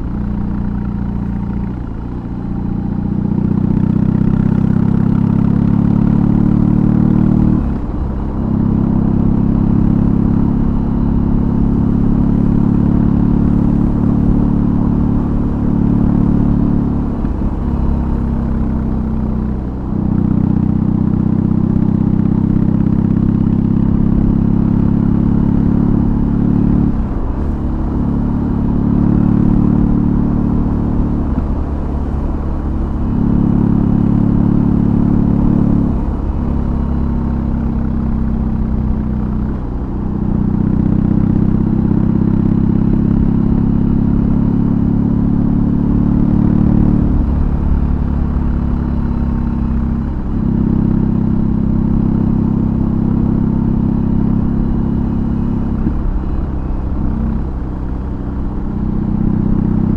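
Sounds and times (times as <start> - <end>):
motorcycle engine on the road: 0.0 - 59.9.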